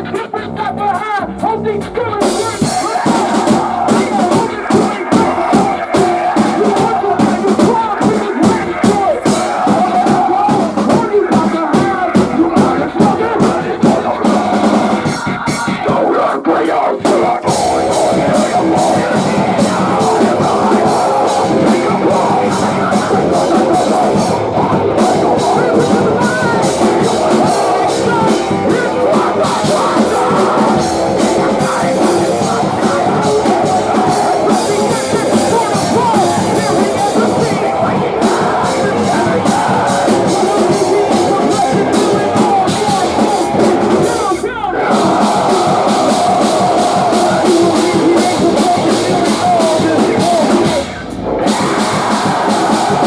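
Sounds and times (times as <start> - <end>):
live rock band playing: 1.8 - 16.2, 17.0 - 53.0.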